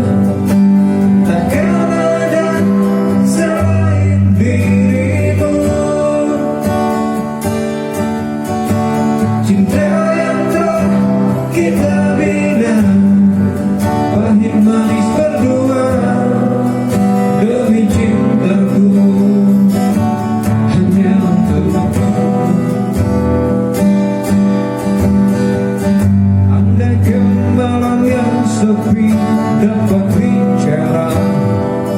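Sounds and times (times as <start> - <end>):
person singing slow song: 0.0 - 7.3, 9.1 - 23.3, 26.3 - 31.9
acoustic guitar strummed: 0.0 - 31.9.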